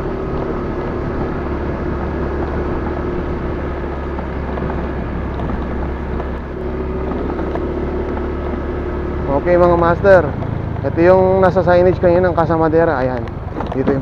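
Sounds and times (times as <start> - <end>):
road and wind noise: 0.0 - 14.0
vehicle engine running: 0.0 - 14.0.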